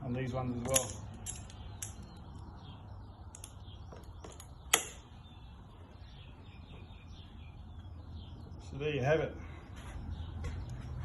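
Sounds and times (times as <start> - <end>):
faint bird chirps: 1.4 - 11.0.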